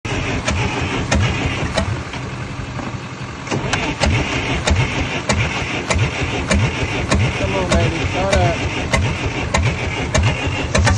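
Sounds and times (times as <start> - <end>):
bulldozer engine turning over: 0.0 - 10.9.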